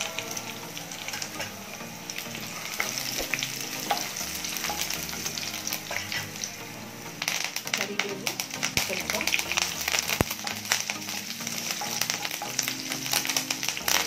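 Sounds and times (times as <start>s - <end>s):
oil popping and crackling: 0.0s - 14.0s
spices sizzling in oil: 0.0s - 14.0s.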